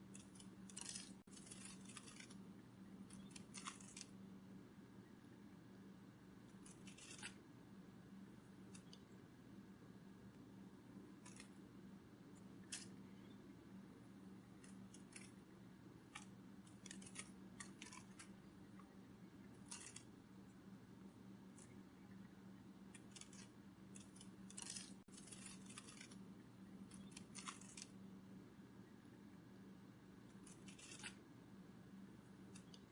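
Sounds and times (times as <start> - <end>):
faint low hum: 0.0 - 32.9.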